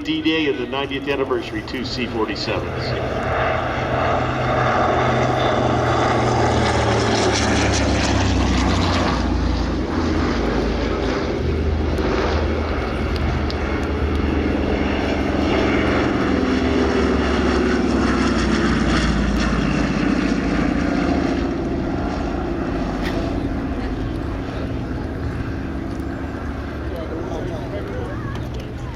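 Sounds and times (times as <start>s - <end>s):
propeller plane engines droning: 0.0s - 28.9s.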